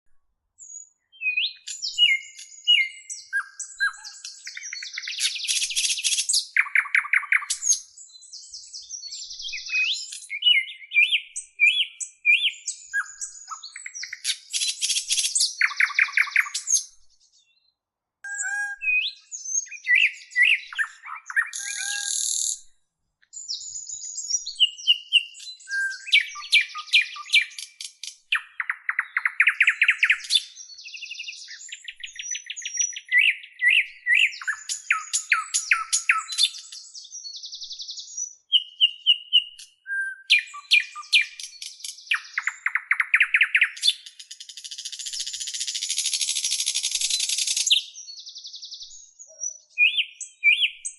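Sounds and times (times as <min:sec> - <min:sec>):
songbird singing: 0:00.1 - 0:50.9.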